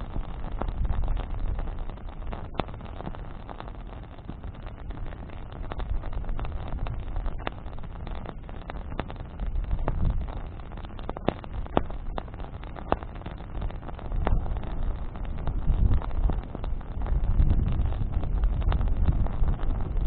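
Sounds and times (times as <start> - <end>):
bonfire crackling and popping: 0.0 - 20.0
low rumble of flames: 0.0 - 20.0
wind: 0.0 - 20.0.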